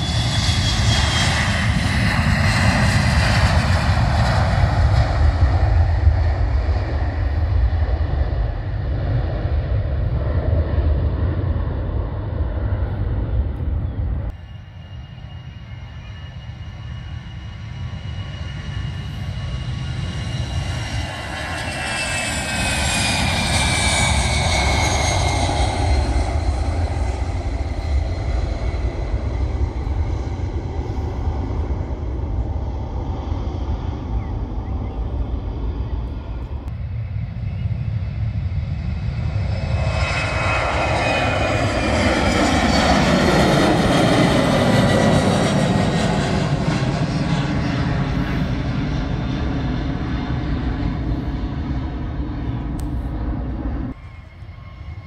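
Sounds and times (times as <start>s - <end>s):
jet airliner roar and whine: 0.0s - 55.0s.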